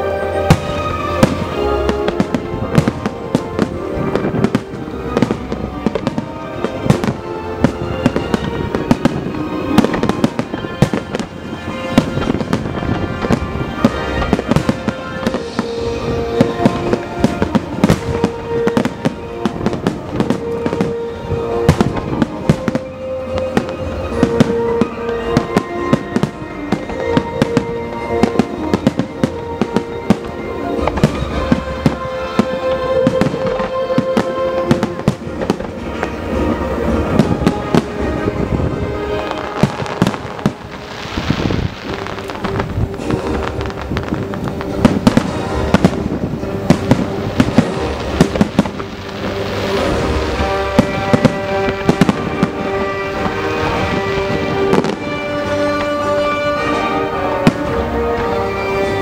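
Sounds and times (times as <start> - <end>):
fireworks bursting: 0.0 - 59.0
music with long held notes: 0.0 - 59.0.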